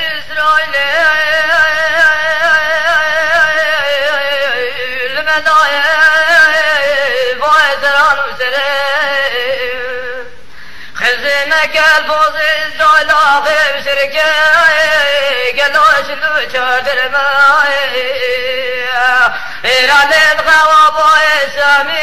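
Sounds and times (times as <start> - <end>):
man singing ornamented melody: 0.0 - 22.0.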